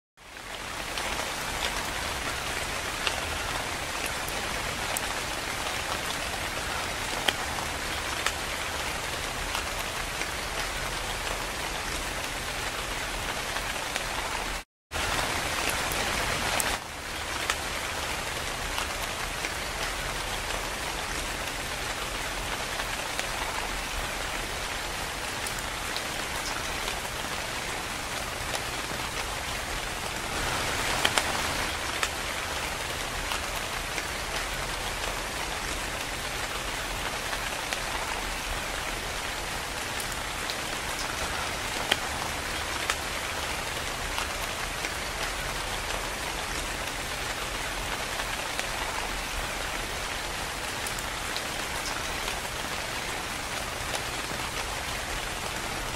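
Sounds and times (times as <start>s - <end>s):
steady rain hiss: 0.2s - 55.9s.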